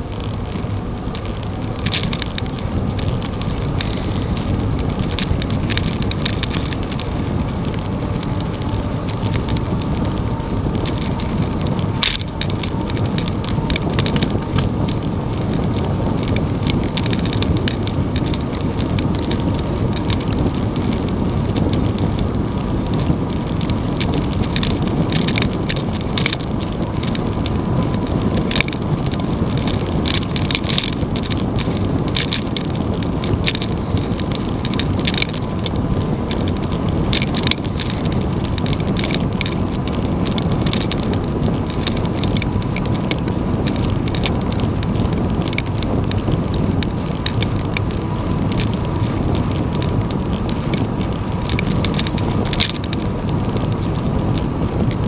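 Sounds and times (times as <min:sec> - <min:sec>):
bicycle tyre noise: 0:00.0 - 0:55.0
bike clicks and rattles: 0:00.0 - 0:55.0
wind rush on microphone: 0:00.0 - 0:55.0.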